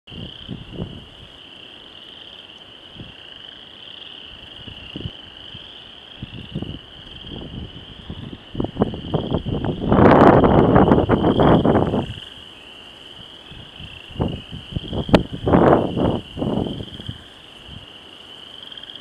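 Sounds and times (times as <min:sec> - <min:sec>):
frogs trilling chorus: 0:00.1 - 0:19.0.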